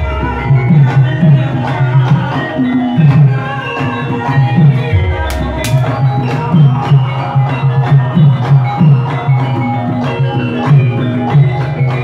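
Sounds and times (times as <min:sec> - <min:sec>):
gamelan music: 0:00.0 - 0:12.0
ringing metallophone: 0:00.0 - 0:12.0.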